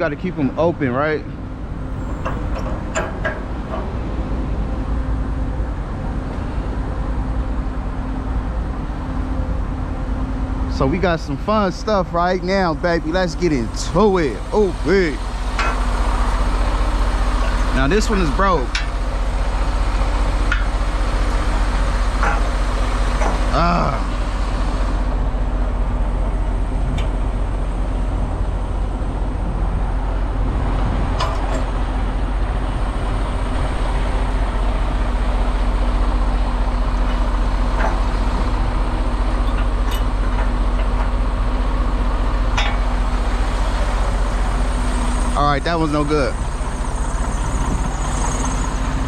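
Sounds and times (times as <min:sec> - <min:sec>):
truck engine humming: 0:00.0 - 0:49.0.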